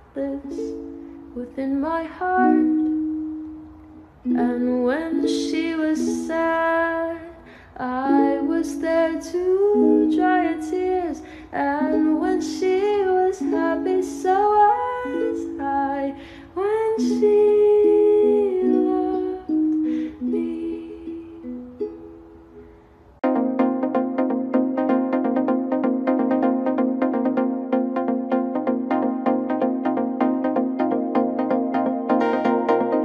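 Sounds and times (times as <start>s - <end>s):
ukulele song with singing: 0.0s - 33.0s.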